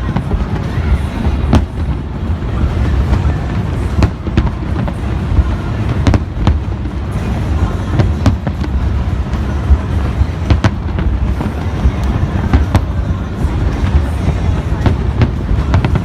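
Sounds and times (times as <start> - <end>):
firework bursts and crackles: 0.0 - 16.0
fireworks rumble: 0.0 - 16.0.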